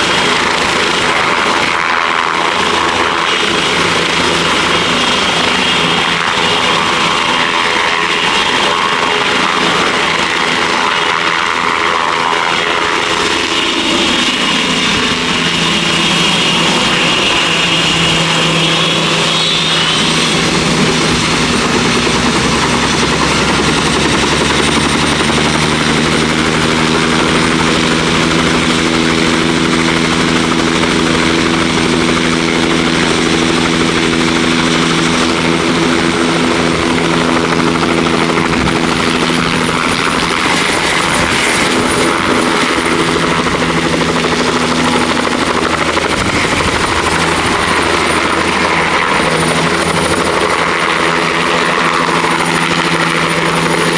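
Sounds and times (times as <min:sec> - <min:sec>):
helicopter rotor hum: 0:00.0 - 0:53.9
helicopter turbine whine: 0:00.0 - 0:53.9.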